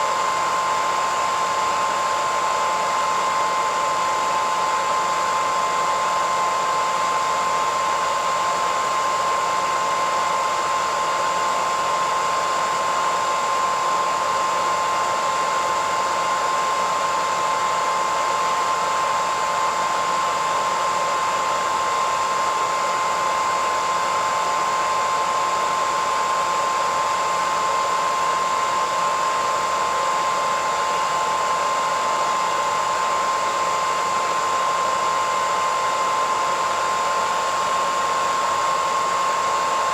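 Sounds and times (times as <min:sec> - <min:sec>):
hairdryer running: 0:00.0 - 0:39.9.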